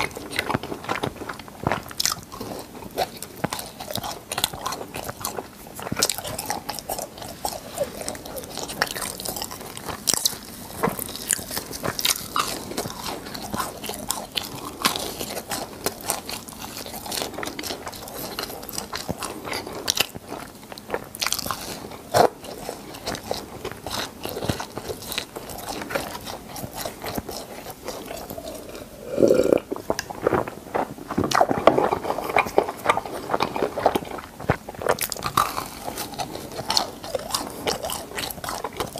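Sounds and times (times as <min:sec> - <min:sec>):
chewing crispy food: 0:00.0 - 0:38.9.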